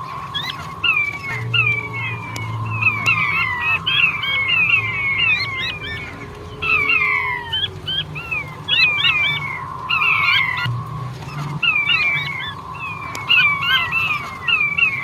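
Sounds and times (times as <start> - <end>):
quail whistled calls: 0.0 - 15.0.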